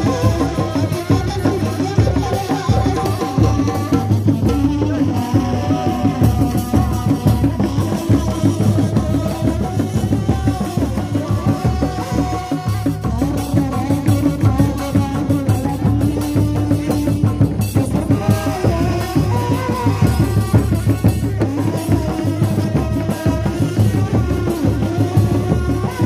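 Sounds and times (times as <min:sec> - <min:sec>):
fast hand drums: 0:00.0 - 0:26.0.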